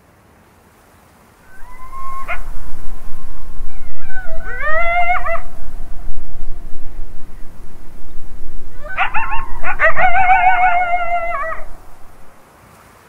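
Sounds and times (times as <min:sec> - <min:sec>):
coyote howling and yipping: 0:01.5 - 0:12.4
steady low rumble: 0:01.5 - 0:12.4.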